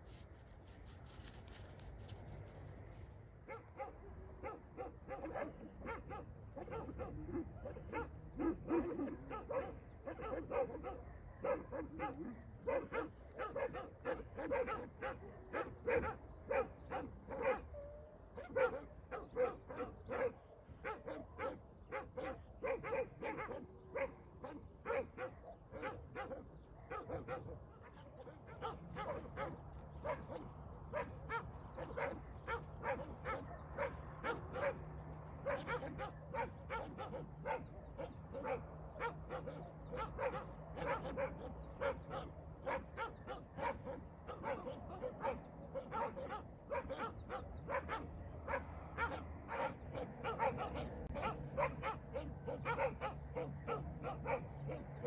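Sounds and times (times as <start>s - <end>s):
dogs barking: 3.4s - 55.0s.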